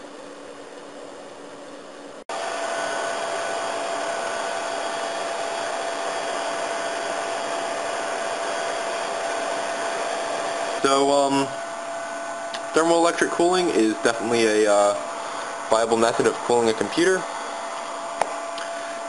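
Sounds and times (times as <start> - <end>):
computer cooling fans whooshing: 0.0 - 19.0
faint constant whine: 0.0 - 19.0.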